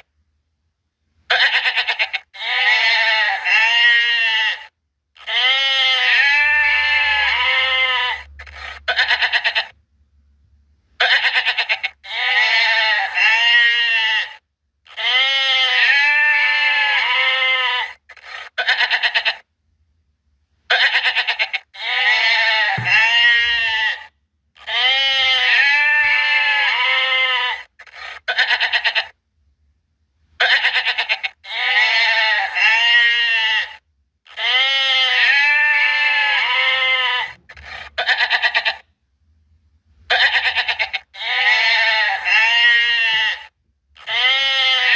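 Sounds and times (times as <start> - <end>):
goats bleating: 1.3 - 9.7, 11.0 - 18.0, 20.7 - 27.7, 28.3 - 29.1, 30.4 - 38.8, 40.1 - 44.9.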